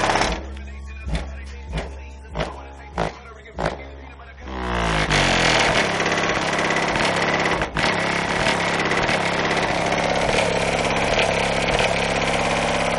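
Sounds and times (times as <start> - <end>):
loud bass from car subwoofers: 0.0 - 12.9.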